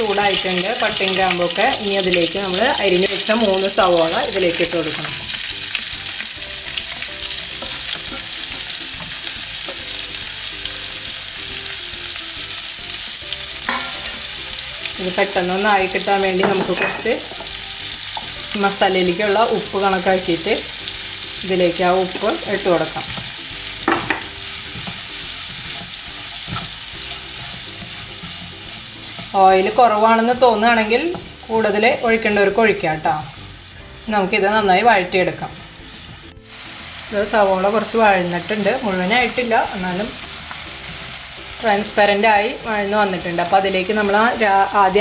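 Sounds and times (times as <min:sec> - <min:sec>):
onions sizzling in oil: 0:00.0 - 0:45.0.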